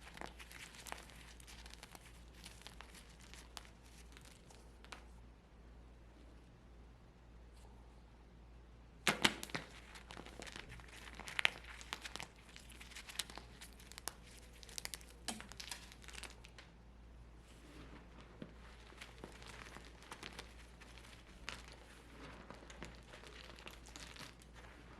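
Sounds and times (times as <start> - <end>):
dry soap crunching and crackling: 0.0 - 5.1, 9.1 - 16.7, 17.6 - 24.9.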